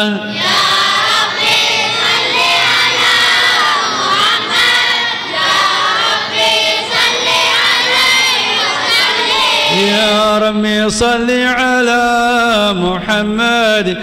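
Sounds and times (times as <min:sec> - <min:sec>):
congregation singing: 0:00.0 - 0:14.0.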